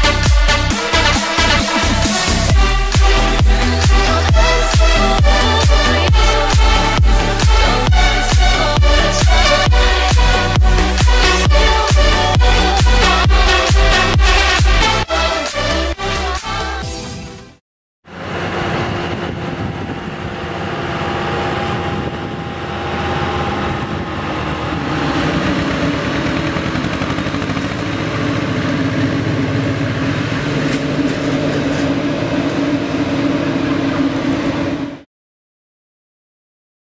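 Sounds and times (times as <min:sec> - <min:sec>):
heavy machinery engine drone: 0:00.0 - 0:15.3, 0:18.1 - 0:35.1.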